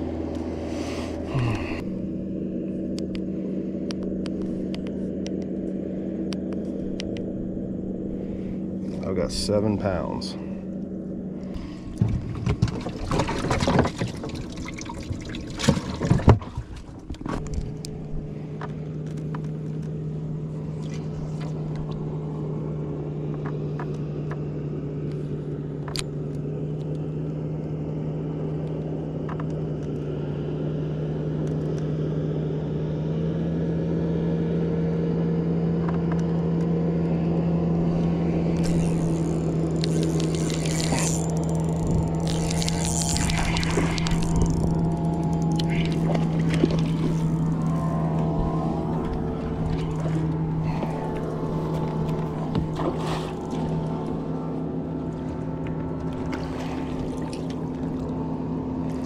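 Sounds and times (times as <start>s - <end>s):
boat motor humming: 0.0s - 59.0s.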